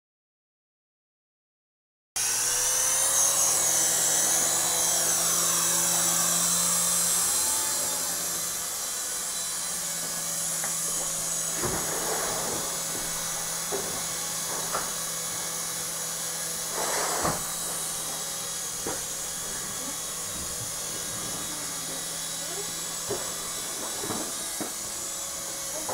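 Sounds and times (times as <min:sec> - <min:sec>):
toy helicopter rotors whining: 0:02.2 - 0:25.9.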